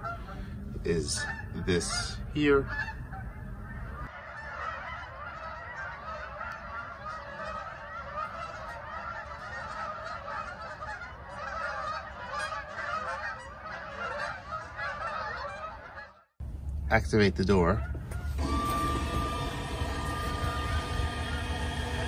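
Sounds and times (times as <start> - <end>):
geese honking: 0.0 - 16.3, 17.5 - 22.0.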